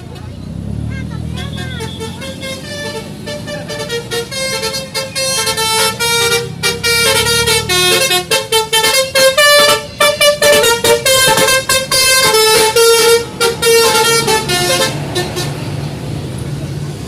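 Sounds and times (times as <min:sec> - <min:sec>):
bus engine rumble: 0:00.0 - 0:17.0
bus horn playing a fast melody: 0:01.4 - 0:15.8.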